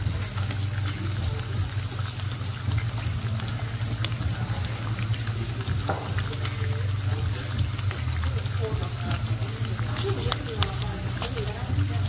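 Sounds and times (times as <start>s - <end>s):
bacon sizzling and popping: 0.0s - 12.0s.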